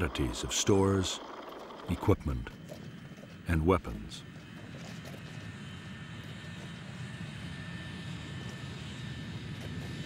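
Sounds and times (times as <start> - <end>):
aircraft engines droning: 0.0 - 10.0.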